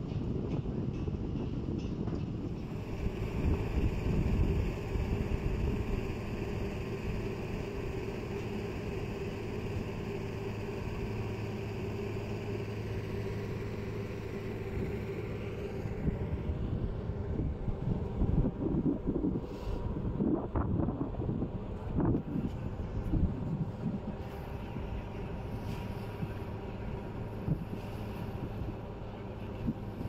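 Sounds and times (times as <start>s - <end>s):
wind buffeting microphone: 0.0s - 8.2s, 12.6s - 30.0s
boat engine drone: 2.4s - 30.0s.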